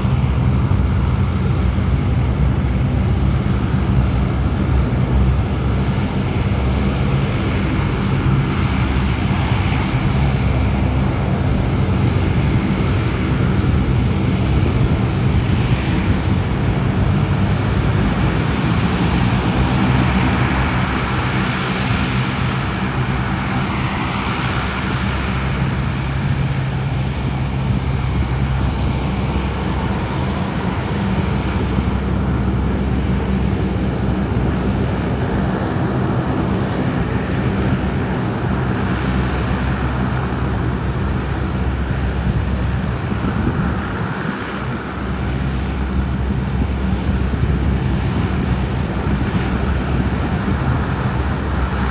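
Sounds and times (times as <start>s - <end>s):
aircraft engines droning: 0.0s - 51.9s.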